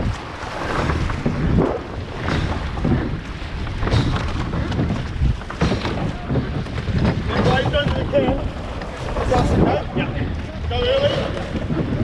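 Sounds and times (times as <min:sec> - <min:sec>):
water splashing along boat hull: 0:00.0 - 0:12.0
wind buffeting microphone: 0:00.0 - 0:12.0.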